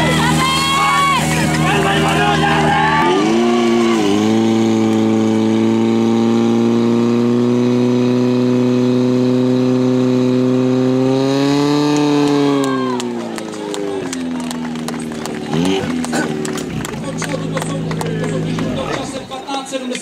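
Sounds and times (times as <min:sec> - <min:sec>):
pump engine running at high revs: 0:00.0 - 0:19.4.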